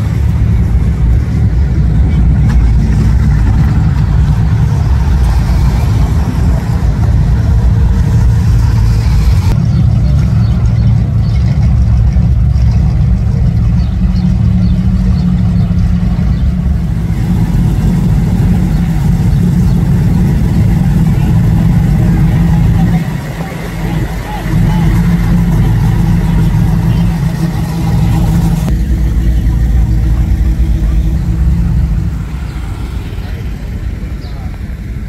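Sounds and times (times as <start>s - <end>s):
car engines rumbling: 0.0s - 35.0s.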